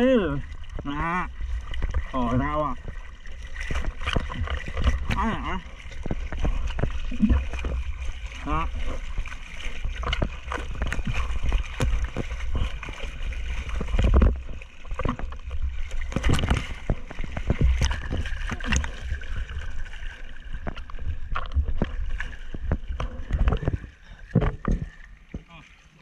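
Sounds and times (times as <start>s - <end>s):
water rushing and splashing: 0.0s - 26.0s.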